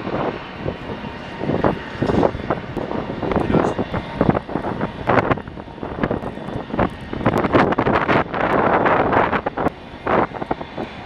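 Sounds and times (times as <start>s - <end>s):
gusty wind buffeting microphone: 0.0s - 11.0s
jet airliner noise: 0.0s - 11.0s.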